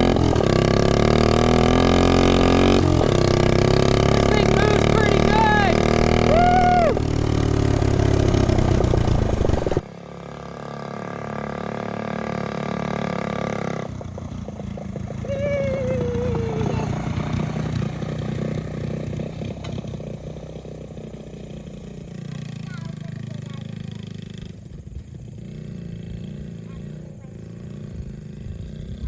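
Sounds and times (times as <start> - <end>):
small motorbike engine revving: 0.0 - 29.0.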